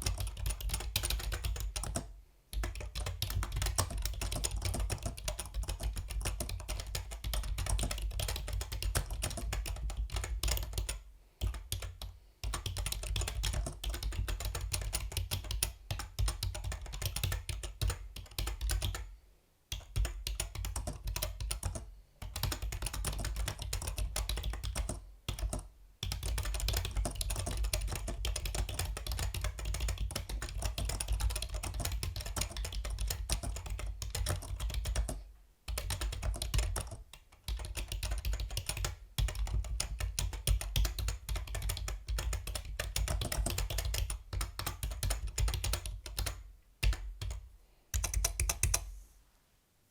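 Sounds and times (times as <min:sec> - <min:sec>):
mechanical keyboard typing: 0:00.0 - 0:19.1, 0:19.7 - 0:48.9.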